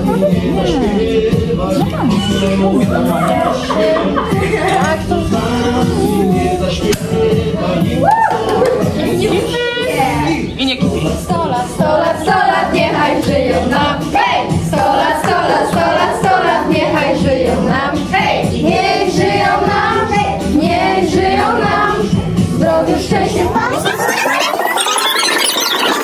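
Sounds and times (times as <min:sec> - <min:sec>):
girls singing together: 0:00.0 - 0:10.4, 0:11.2 - 0:24.6.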